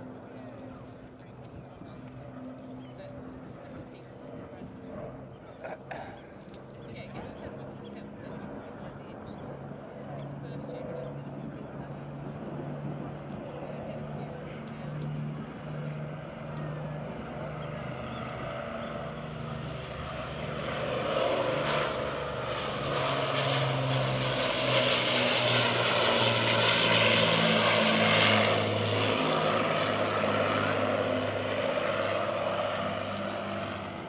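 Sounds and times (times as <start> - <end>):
propeller plane engines droning: 0.0 - 34.0.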